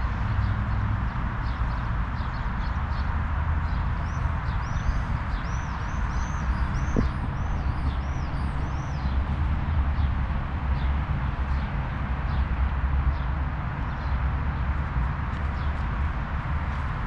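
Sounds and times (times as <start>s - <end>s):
outdoor background rush: 0.0s - 17.0s.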